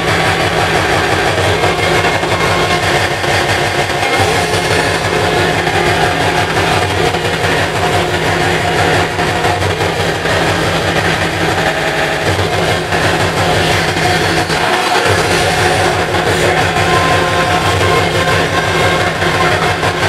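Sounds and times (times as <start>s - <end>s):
fast kick drum: 0.0s - 20.0s
hardcore techno music: 0.0s - 20.0s.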